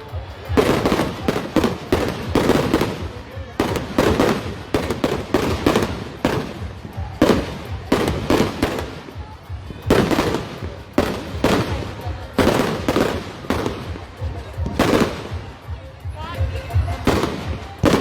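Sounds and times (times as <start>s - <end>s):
fireworks bursting with booms: 0.1s - 15.6s, 16.8s - 18.0s.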